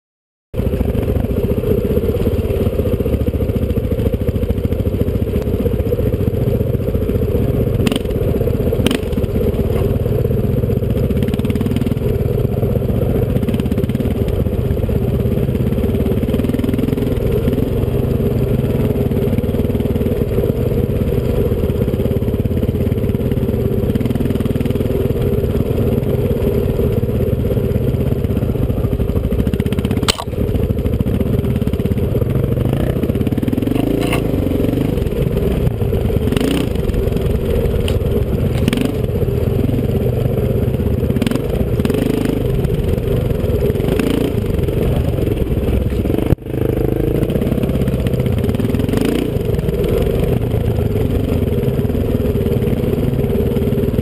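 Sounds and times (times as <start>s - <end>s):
dirt bike engine running: 0.6s - 54.0s.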